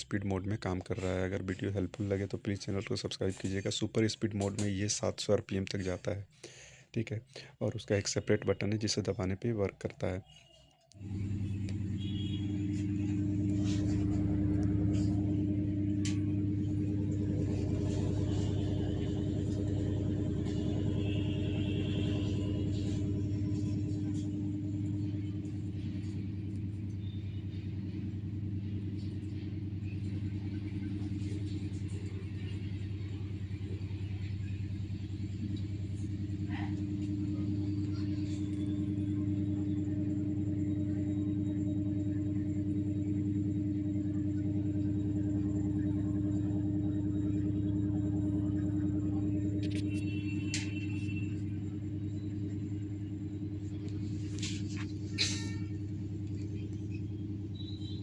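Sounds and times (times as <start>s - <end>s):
washing machine spinning: 11.0s - 58.0s.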